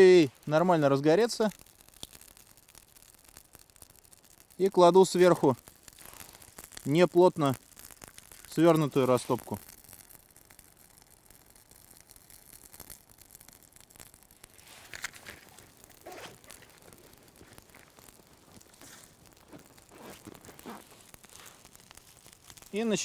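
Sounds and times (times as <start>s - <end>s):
kindling fire crackling: 0.0s - 23.0s.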